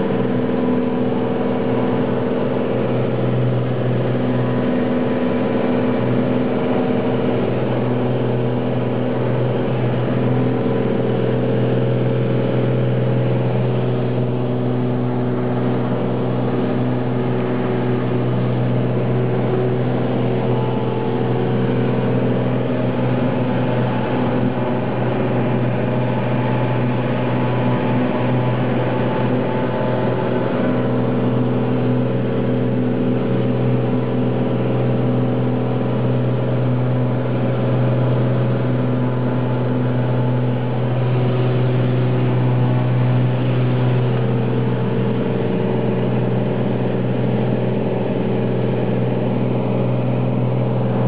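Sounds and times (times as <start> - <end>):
aircraft engine and propeller droning: 0.0 - 51.0.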